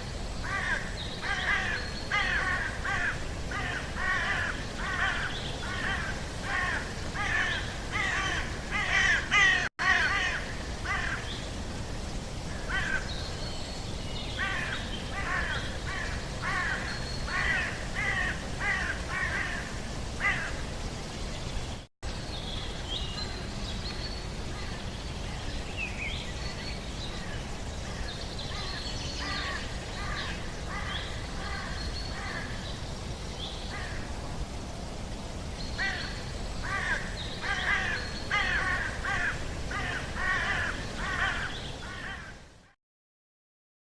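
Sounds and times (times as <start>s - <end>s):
birds calling: 0.0s - 11.5s, 12.4s - 20.8s, 22.4s - 34.1s, 35.5s - 42.4s
steady background noise: 0.0s - 42.7s.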